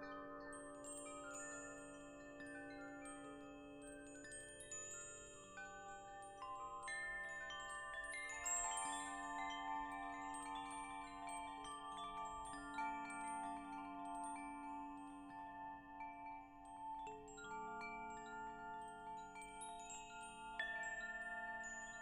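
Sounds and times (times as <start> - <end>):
wind chimes ringing: 0.8 - 22.0.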